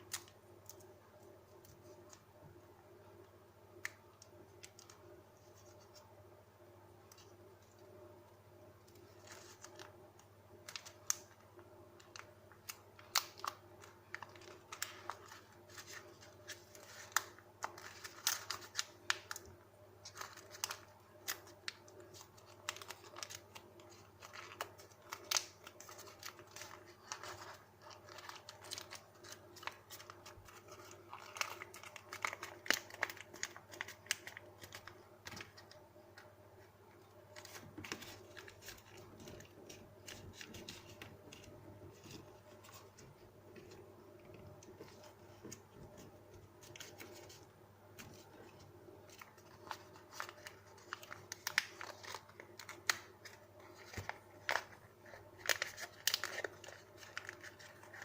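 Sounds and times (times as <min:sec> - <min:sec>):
faint steady hum: 0:00.0 - 0:58.0
paper crinkling and crackling: 0:08.8 - 0:58.0.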